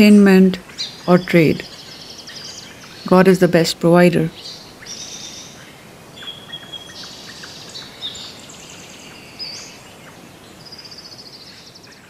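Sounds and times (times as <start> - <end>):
birds singing: 0.4 - 12.0.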